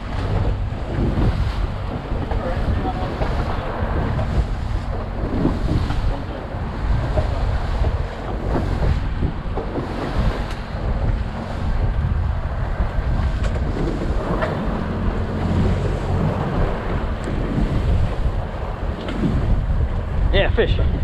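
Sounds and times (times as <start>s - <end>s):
boat engine humming: 0.0s - 21.0s
waves: 0.0s - 21.0s
wind buffeting microphone: 0.0s - 21.0s.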